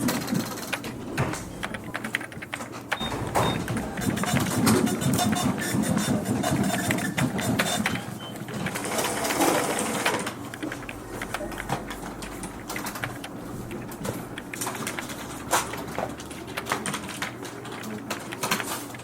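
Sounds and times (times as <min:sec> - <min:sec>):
low machine hum: 0:00.0 - 0:18.7
fax machine clattering: 0:00.0 - 0:19.0.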